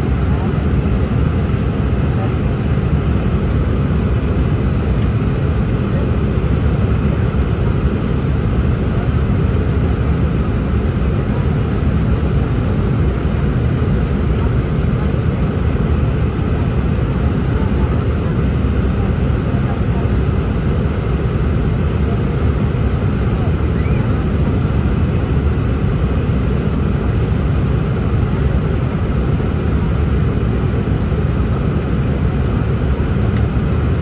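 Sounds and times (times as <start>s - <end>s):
jet engine cabin rumble: 0.0s - 34.0s.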